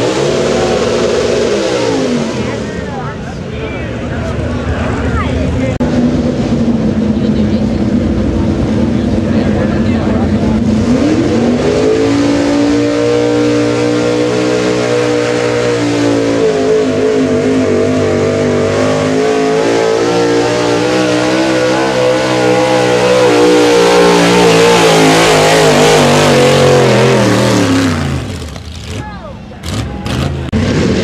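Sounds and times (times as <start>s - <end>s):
truck engine at full throttle: 0.0s - 31.0s.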